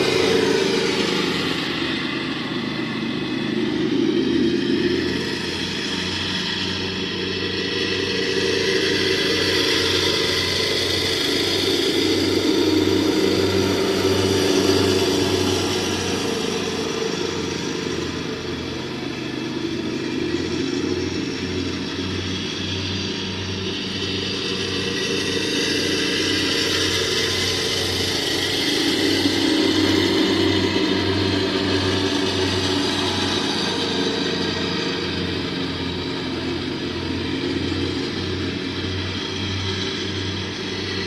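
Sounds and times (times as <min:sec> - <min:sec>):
lawn mower engine running: 0:00.0 - 0:41.0.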